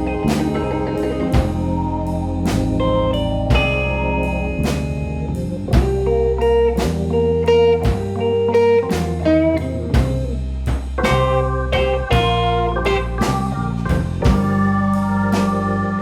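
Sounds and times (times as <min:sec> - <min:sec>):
bass: 0:00.0 - 0:16.0
guitar lead notes: 0:00.0 - 0:16.0
steady drum beat: 0:00.0 - 0:16.0.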